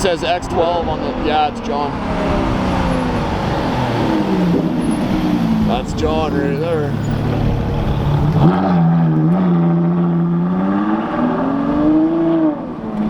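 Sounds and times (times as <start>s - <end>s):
car engine passing: 0.0s - 13.0s.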